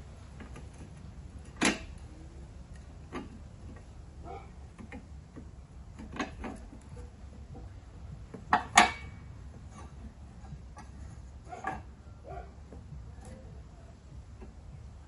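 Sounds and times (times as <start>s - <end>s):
low steady hum: 0.0s - 15.0s
hand tools clicking and knocking: 0.3s - 14.9s.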